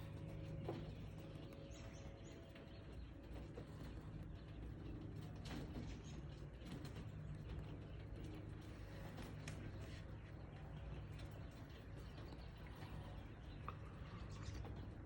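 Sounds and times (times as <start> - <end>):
quail peeping: 0.0 - 15.0.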